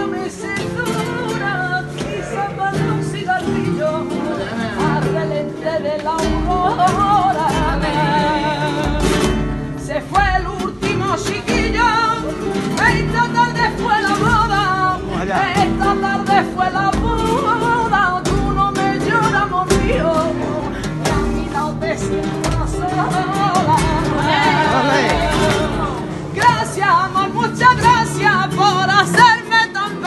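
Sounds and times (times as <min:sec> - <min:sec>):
strummed guitar chords: 0:00.0 - 0:30.0
woman singing: 0:00.0 - 0:30.0.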